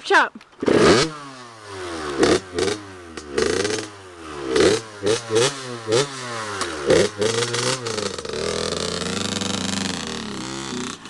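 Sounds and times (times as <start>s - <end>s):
dirt bike engine revving: 0.6s - 11.0s.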